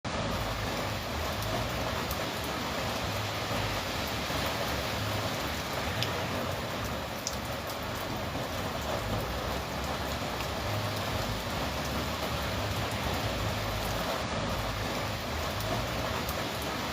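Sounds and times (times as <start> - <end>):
rain falling on plants: 0.0 - 16.9.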